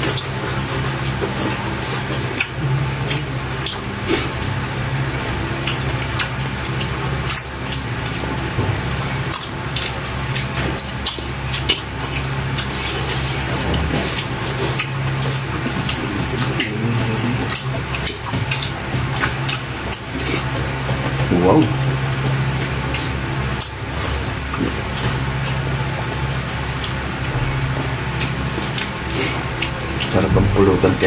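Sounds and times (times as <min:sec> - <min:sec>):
people chewing wetly: 0:00.0 - 0:31.0
steady low hum: 0:00.0 - 0:31.0.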